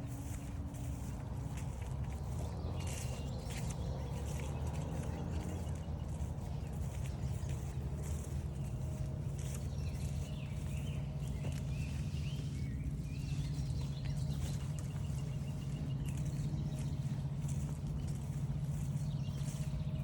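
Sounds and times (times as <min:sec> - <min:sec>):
footsteps on a trail: 0:00.0 - 0:20.0
songbirds chirping and whistling: 0:00.0 - 0:20.0
steady low hum: 0:00.0 - 0:20.0.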